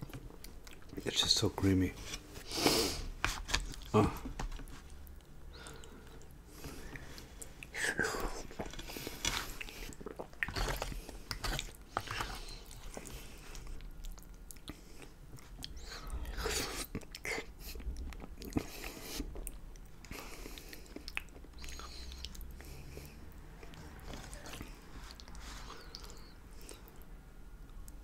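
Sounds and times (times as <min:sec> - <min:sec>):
person chewing: 0:00.0 - 0:01.0, 0:02.4 - 0:27.1.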